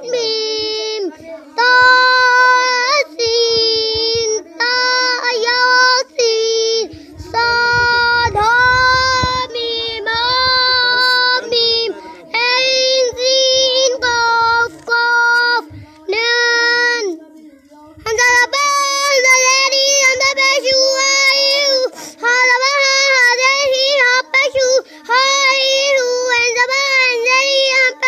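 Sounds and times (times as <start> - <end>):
boy chanting in sing-song voice: 0.0 - 28.0.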